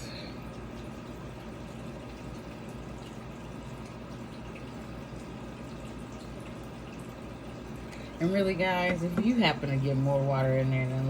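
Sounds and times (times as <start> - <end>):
aquarium filter water trickling: 0.0 - 11.0.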